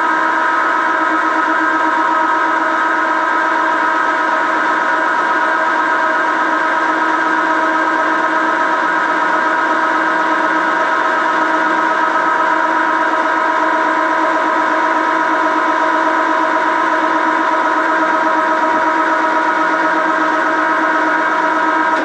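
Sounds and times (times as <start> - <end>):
metal lathe whining: 0.0 - 22.0.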